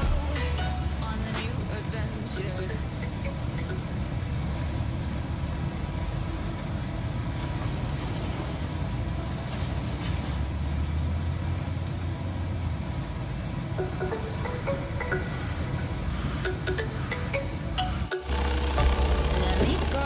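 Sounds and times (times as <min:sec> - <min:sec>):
thin high whine: 0:00.0 - 0:10.6, 0:11.4 - 0:20.0
low mechanical rumble: 0:00.0 - 0:20.0.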